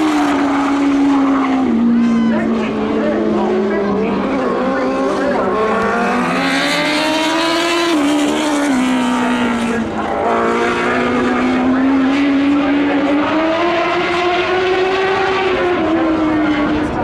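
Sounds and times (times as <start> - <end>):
race car engine running: 0.0 - 17.0.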